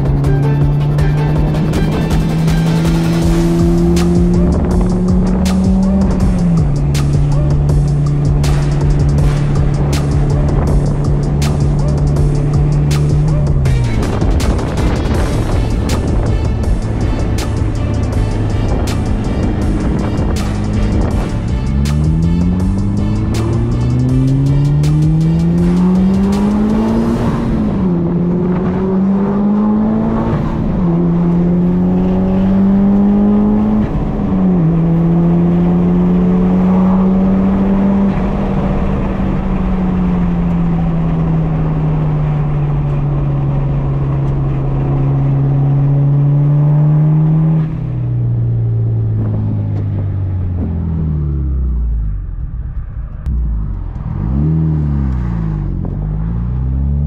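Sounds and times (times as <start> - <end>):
car engine pulling through gears: 0.0 - 57.0.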